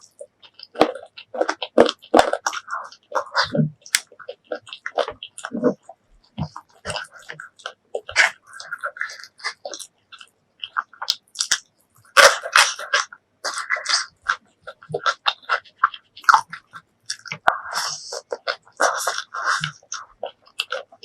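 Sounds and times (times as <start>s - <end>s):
wet chewing and mouth smacking: 0.0s - 21.0s.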